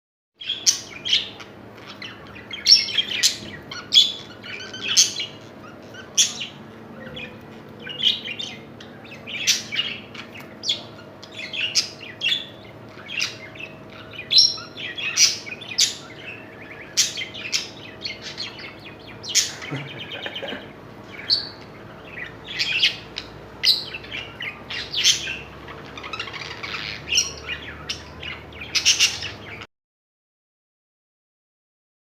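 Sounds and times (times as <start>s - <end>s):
budgerigars chirping: 0.4s - 29.7s
faint steady hum: 0.4s - 29.7s.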